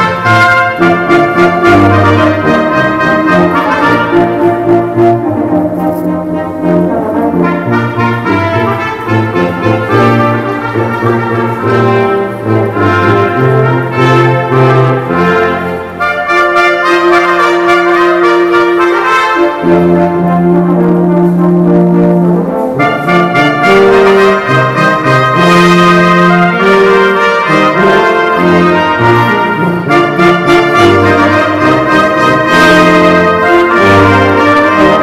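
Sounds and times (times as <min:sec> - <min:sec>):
brass quintet playing: 0:00.0 - 0:35.0.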